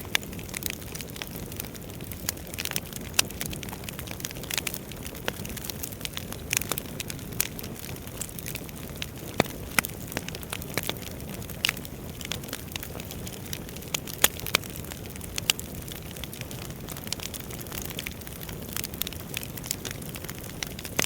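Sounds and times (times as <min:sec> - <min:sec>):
fire crackles and sharp pops: 0:00.0 - 0:21.0.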